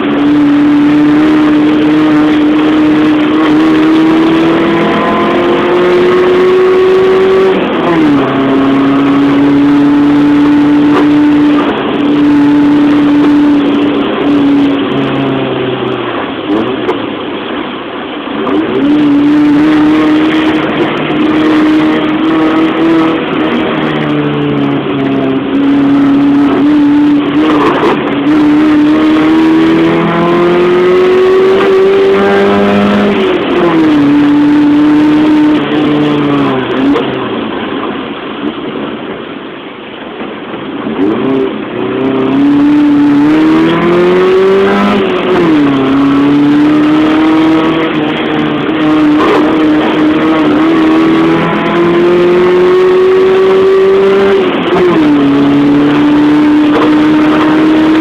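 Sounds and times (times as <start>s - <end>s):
race car engine shifting gears: 0.0s - 39.0s, 40.4s - 58.0s.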